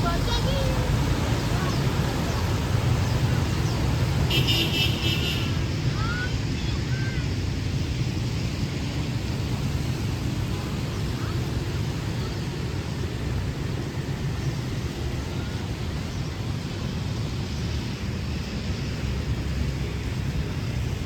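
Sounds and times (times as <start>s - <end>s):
rain hissing: 0.0s - 21.0s
traffic rumble: 0.0s - 21.0s.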